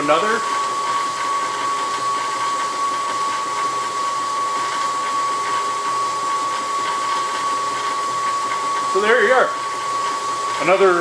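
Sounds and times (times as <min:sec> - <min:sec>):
slab saw running with whine: 0:00.0 - 0:11.0.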